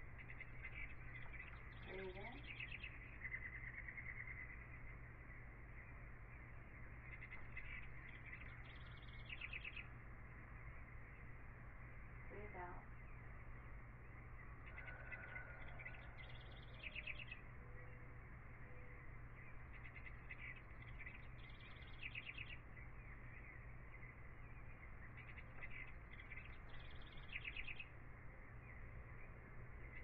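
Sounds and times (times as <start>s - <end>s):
bird chirping: 0.0s - 30.0s
low steady hum: 0.0s - 30.0s.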